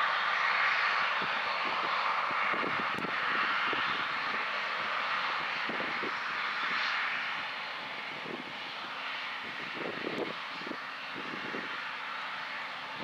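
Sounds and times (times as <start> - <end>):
farm machinery drone: 0.0 - 13.0.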